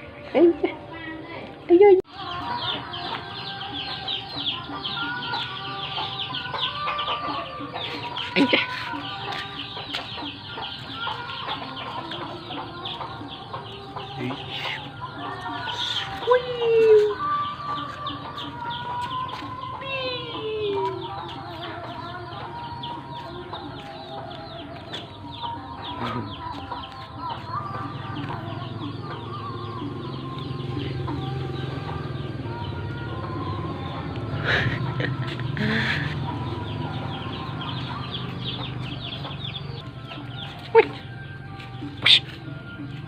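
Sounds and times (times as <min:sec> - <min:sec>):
fowl chirping and clucking: 0:02.1 - 0:43.0.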